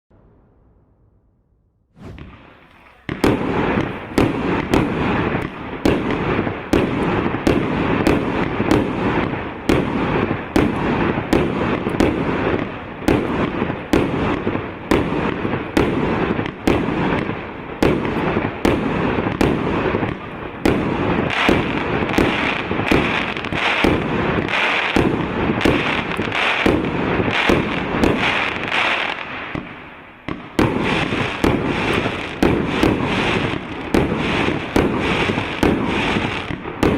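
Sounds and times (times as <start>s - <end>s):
firework bangs: 1.9s - 36.9s
firework crackling: 2.0s - 36.9s.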